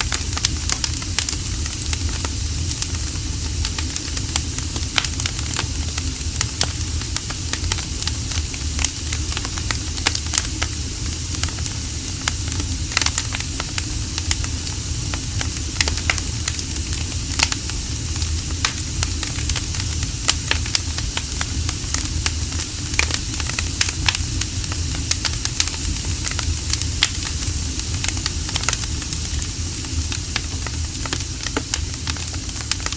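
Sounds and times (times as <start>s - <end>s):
steady hiss: 0.0s - 32.9s
wood fire crackling and popping: 0.0s - 32.9s.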